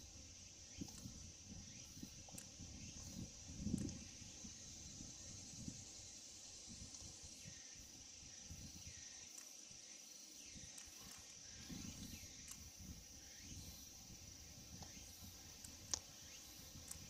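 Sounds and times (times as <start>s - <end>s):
wind rumble on microphone: 0.0s - 9.1s, 10.5s - 17.0s
insects trilling: 0.0s - 17.0s.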